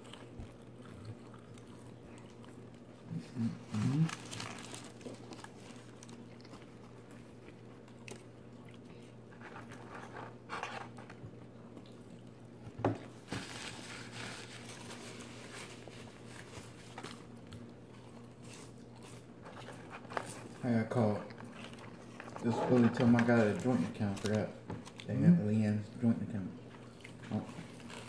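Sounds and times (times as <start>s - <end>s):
person chewing food: 0.0s - 13.2s, 14.2s - 20.6s, 21.2s - 23.5s, 26.6s - 28.0s
steady low hum: 0.0s - 28.0s.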